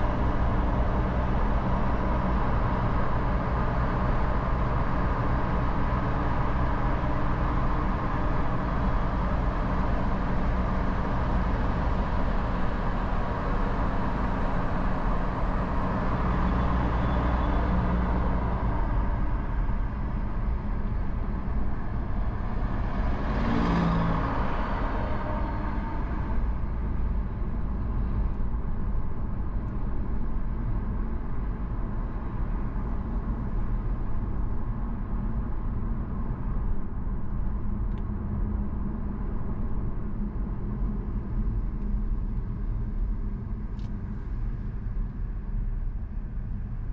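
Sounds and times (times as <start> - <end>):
car road noise from inside: 0.0 - 46.9.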